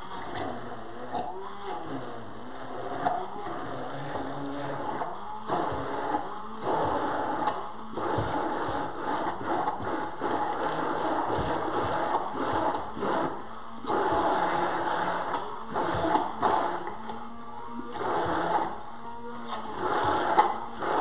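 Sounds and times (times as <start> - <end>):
immersion blender running: 0.0 - 21.0.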